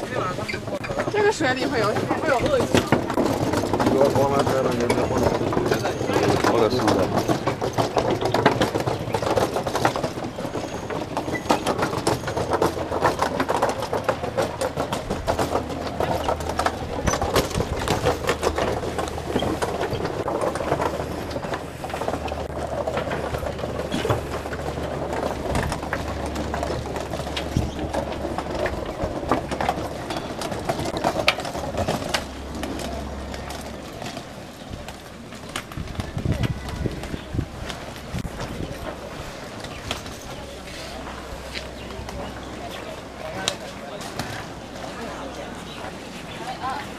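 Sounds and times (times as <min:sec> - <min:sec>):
suitcase wheels rattling on planks: 0:00.0 - 0:46.9
footsteps on wooden boards: 0:00.6 - 0:46.9.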